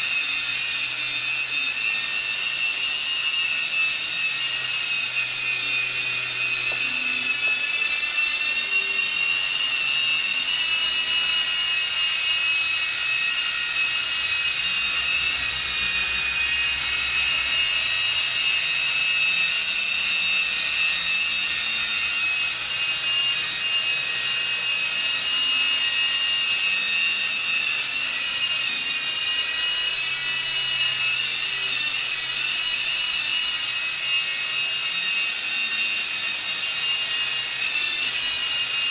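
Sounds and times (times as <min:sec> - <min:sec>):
toy helicopter motors whining: 0:00.0 - 0:38.9.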